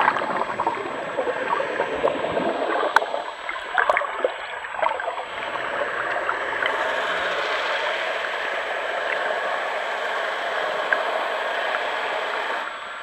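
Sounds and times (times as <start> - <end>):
steady underwater hiss: 0.0 - 13.0
underwater bubbles and churning: 0.0 - 13.0.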